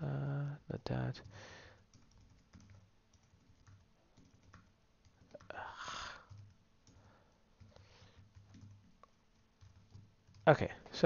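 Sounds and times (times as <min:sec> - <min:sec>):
keyboard keystrokes: 0:01.2 - 0:10.7.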